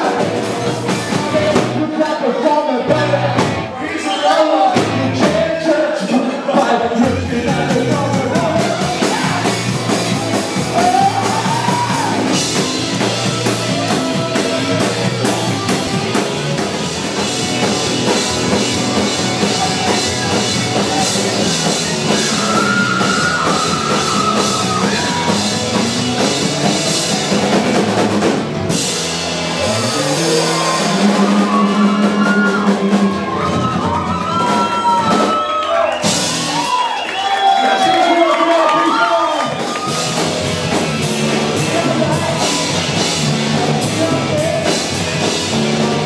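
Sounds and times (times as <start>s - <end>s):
rock band playing loud: 0.0s - 46.0s.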